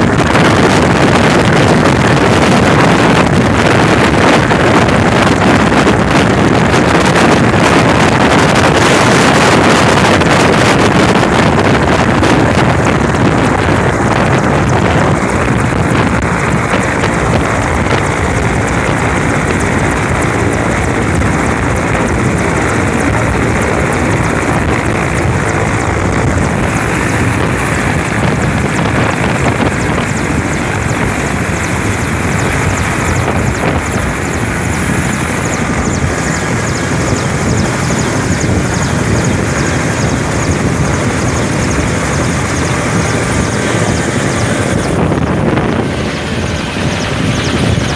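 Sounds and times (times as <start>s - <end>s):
helicopter turbines and rotor: 0.0s - 47.9s
high turbine whine: 0.0s - 47.9s
wind buffeting microphone: 0.0s - 47.9s.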